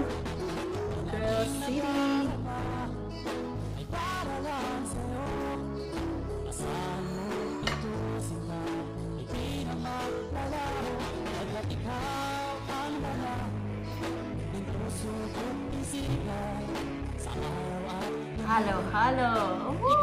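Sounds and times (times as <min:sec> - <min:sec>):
song with bass guitar and vocals: 0:00.0 - 0:20.0.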